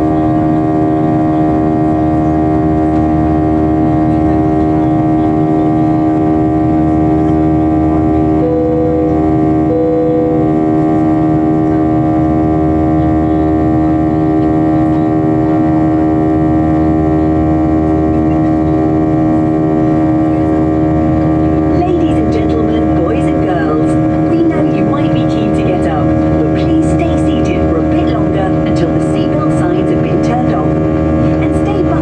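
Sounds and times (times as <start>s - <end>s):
jet engine cabin drone: 0.0s - 32.0s.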